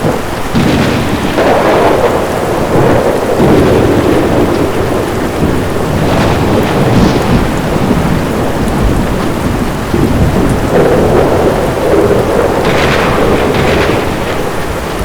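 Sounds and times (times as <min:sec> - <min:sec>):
heavy rain: 0:00.0 - 0:15.0
rolling thunder: 0:00.0 - 0:15.0.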